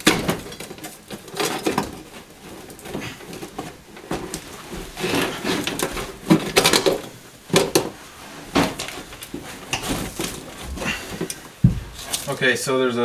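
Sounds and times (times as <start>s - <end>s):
sharp knocks: 0.0s - 12.3s
carpet rustling and scraping: 0.0s - 12.8s.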